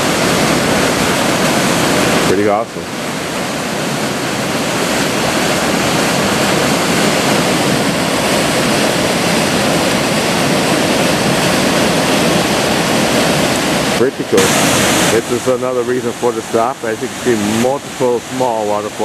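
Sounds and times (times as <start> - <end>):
whitewater rushing over rocks: 0.0 - 19.0.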